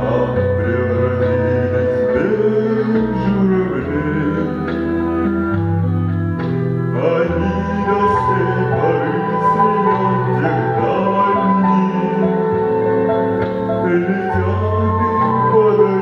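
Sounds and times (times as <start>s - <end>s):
man singing into microphone: 0.0s - 5.4s, 6.9s - 16.0s
slow song backing track: 0.0s - 16.0s.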